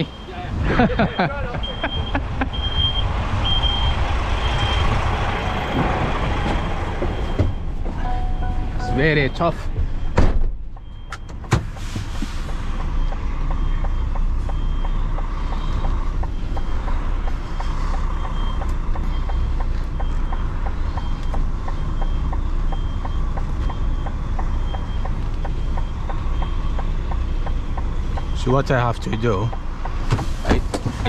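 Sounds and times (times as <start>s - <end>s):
reversing alarm beeps: 0.0s - 11.5s, 12.8s - 16.0s, 18.2s - 27.1s, 27.8s - 29.7s.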